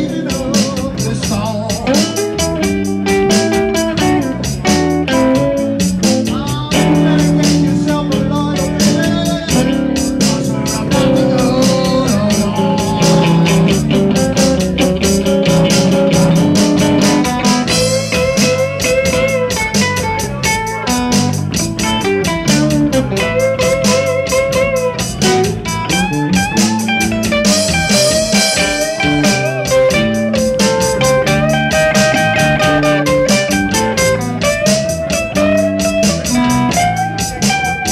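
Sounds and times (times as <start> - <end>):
bass guitar: 0.0 - 37.9
drum beat with cymbals: 0.0 - 37.9
electric guitar lead: 0.0 - 37.9.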